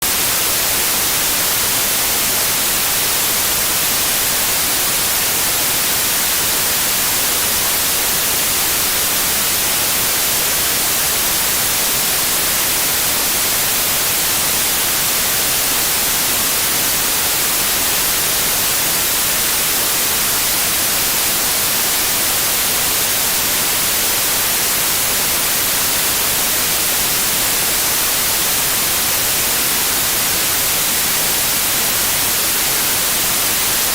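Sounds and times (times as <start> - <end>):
television static hiss: 0.0 - 33.9.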